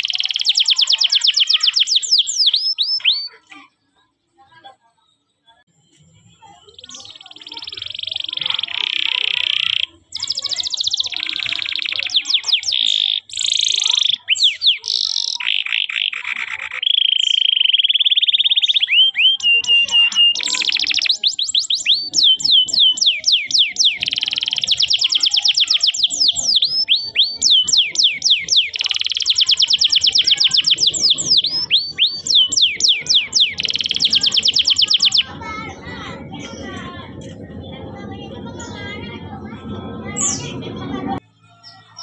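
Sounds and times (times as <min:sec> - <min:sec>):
canary singing: 0:00.0 - 0:03.5, 0:06.3 - 0:42.0.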